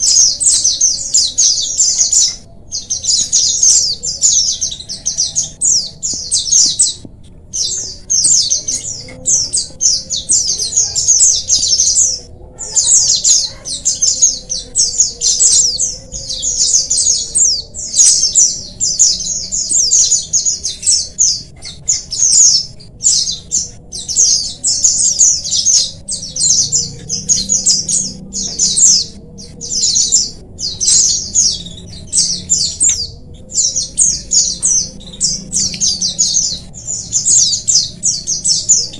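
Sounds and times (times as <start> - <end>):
flock of birds chirping: 0.0 - 38.9.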